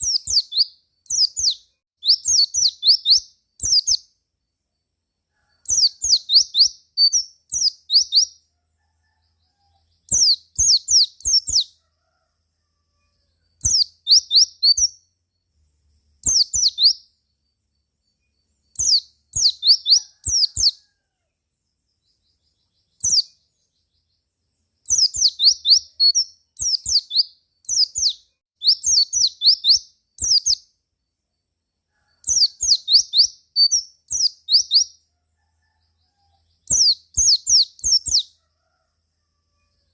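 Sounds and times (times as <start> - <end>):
bird twittering song: 0.0 - 5.0, 5.6 - 11.8, 13.4 - 20.9, 21.5 - 31.6, 32.2 - 35.0, 35.6 - 38.4.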